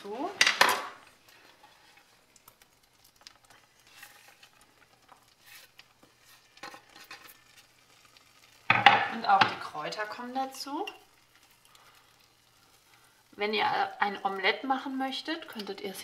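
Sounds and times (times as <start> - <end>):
eggs sizzling in frying pan: 0.0 - 16.0.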